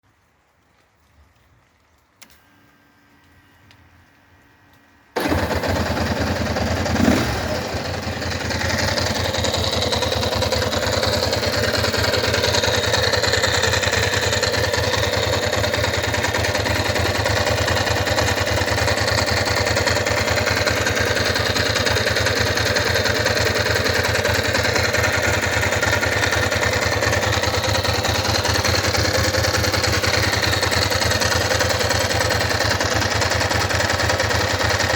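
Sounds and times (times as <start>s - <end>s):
engine starting and idling: 5.2s - 34.9s.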